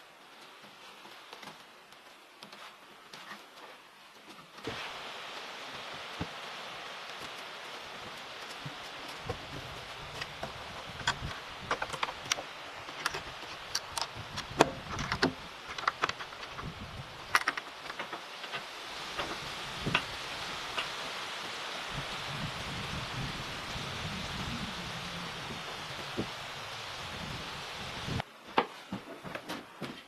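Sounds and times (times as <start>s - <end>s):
steady rain falling: 0.0s - 28.4s.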